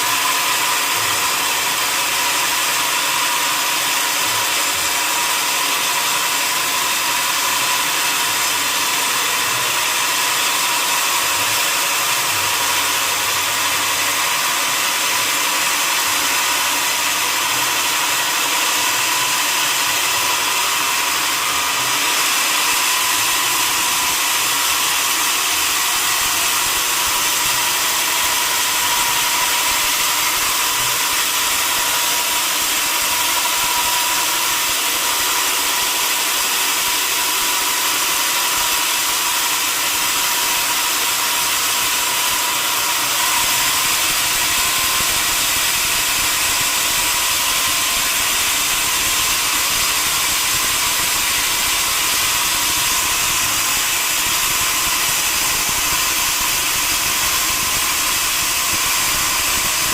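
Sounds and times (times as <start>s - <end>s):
sawmill machinery hissing and whining: 0.0s - 59.9s.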